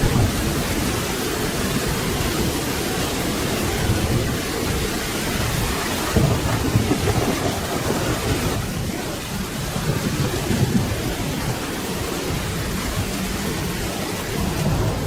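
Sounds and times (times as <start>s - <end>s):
low rolling thunder: 0.0s - 15.0s
steady rain falling: 0.0s - 15.0s.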